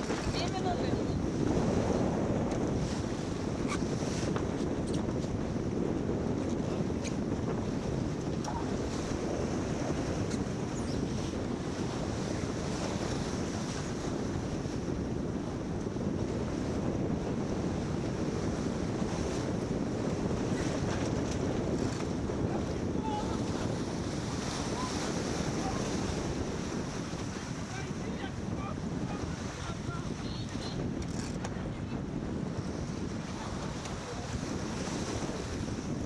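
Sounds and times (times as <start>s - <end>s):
water slapping along hull: 0.0s - 36.0s
wind buffeting microphone: 0.0s - 36.0s.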